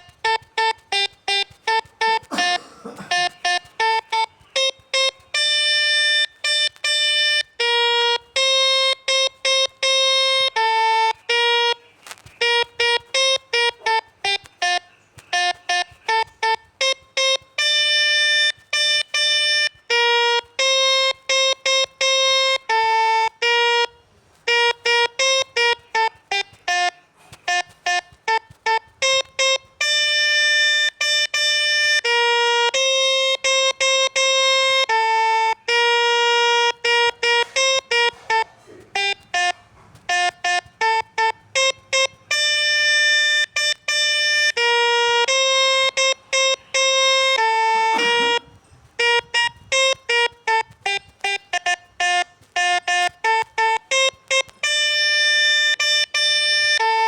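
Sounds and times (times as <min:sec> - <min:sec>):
melodica playing a melody: 0:00.0 - 0:57.0.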